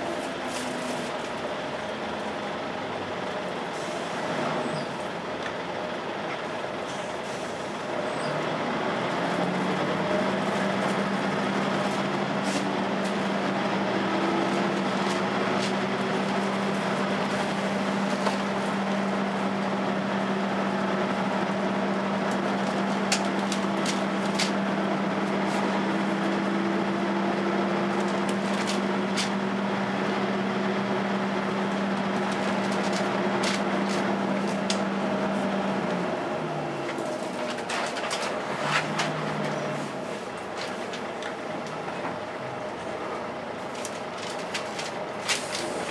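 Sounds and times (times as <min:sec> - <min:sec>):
bus engine running: 0:00.0 - 0:45.9
engine cooling fan droning: 0:00.0 - 0:45.9.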